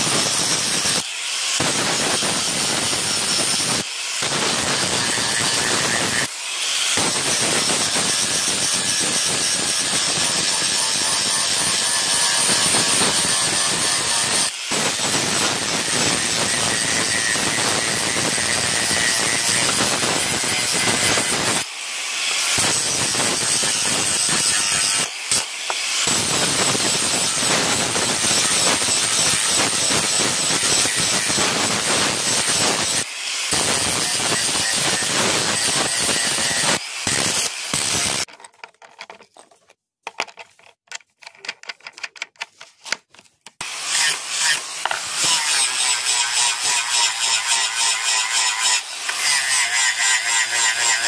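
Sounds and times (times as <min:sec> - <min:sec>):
angle grinder grinding steel: 0:00.0 - 0:38.3, 0:43.6 - 0:51.0.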